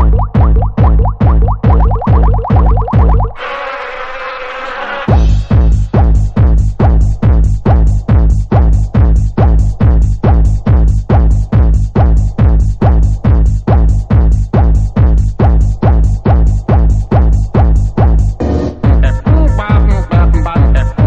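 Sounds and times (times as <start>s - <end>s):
heavy kick drum: 0.0s - 3.3s, 5.1s - 21.0s
electronic dance music: 0.0s - 3.5s, 4.6s - 21.0s.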